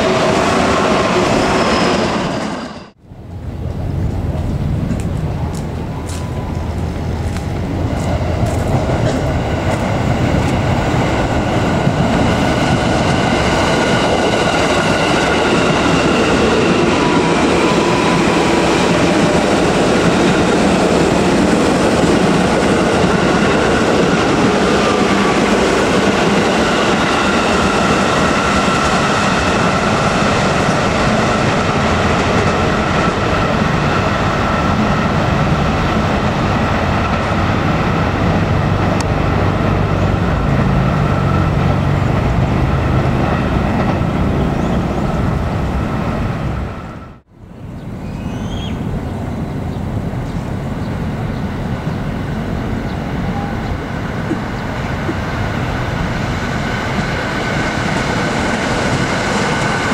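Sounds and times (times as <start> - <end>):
train wheels rumbling on track: 0.0 - 47.3, 48.0 - 59.9.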